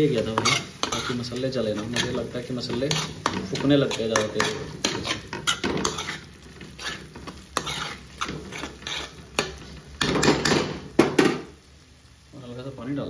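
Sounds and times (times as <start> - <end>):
metal ladle scraping a pan: 0.0 - 10.8
light sizzle: 0.0 - 13.0.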